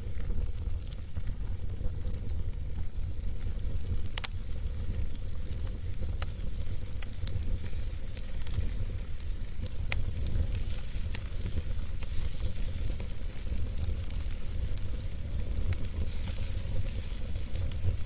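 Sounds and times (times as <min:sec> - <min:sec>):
fire crackling and popping: 0:00.0 - 0:18.0
fire rumbling and hissing: 0:00.0 - 0:18.0.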